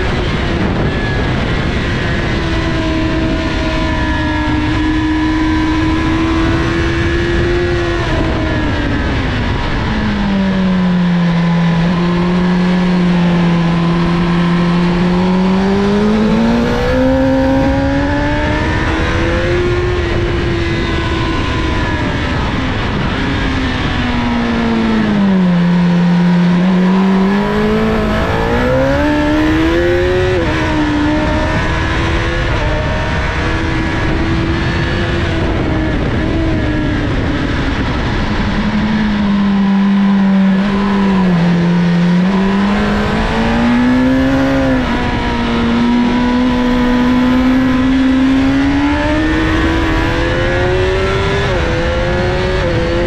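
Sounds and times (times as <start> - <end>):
motorcycle engine at speed: 0.0 - 53.0
wind rushing over microphone: 0.0 - 53.0.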